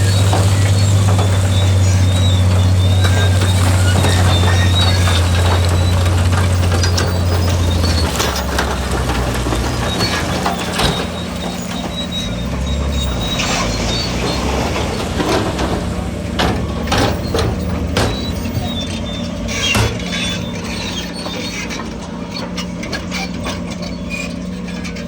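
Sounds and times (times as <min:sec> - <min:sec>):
clanks and knocks: 0:00.0 - 0:25.0
diesel construction machinery running: 0:00.0 - 0:25.0.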